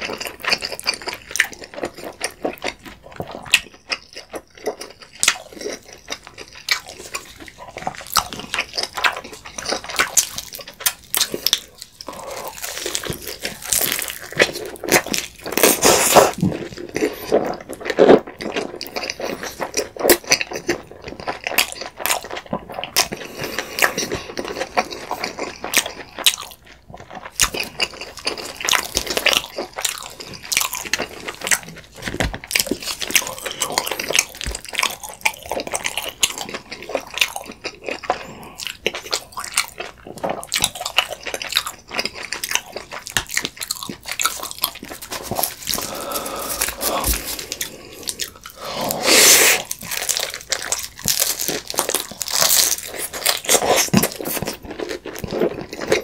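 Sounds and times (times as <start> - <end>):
wet chewing and slurping: 0.0 - 56.0.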